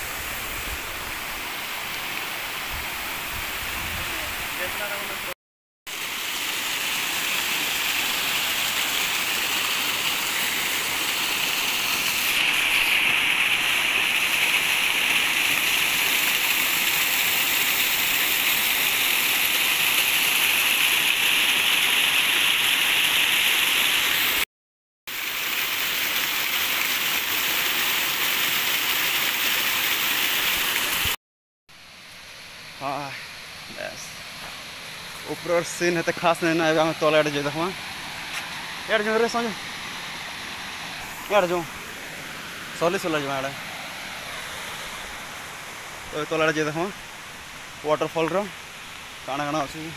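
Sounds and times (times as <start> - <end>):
water rushing over rocks: 0.0 - 24.4, 25.1 - 31.2, 32.8 - 49.9.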